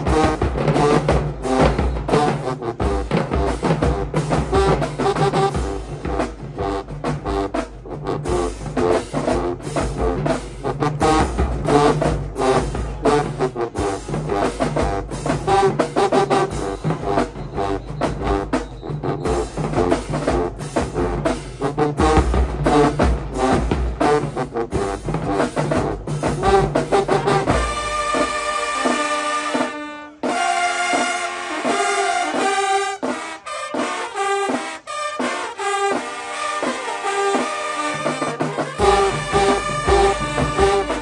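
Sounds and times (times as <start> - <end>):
brass instruments playing: 0.0 - 41.0
marching drums: 0.0 - 41.0.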